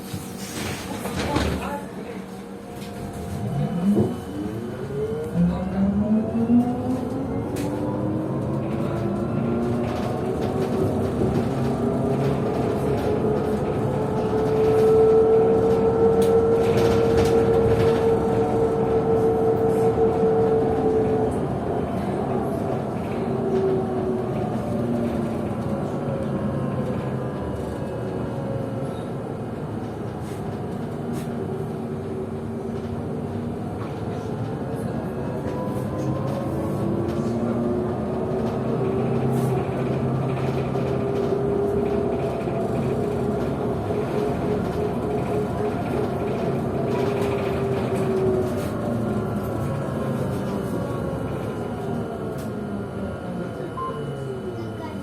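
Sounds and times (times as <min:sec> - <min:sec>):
trolleybus motor whining: 0:02.0 - 0:54.9.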